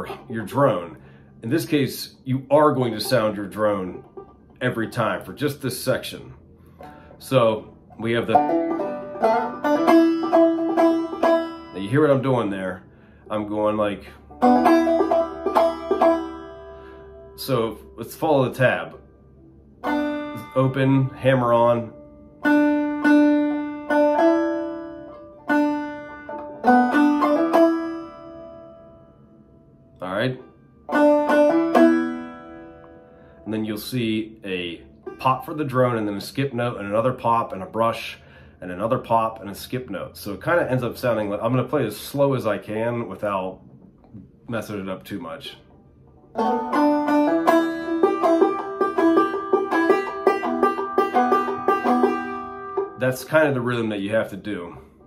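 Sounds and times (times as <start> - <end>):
banjo plucked notes: 0.0 - 29.2, 30.0 - 37.7, 45.7 - 54.9.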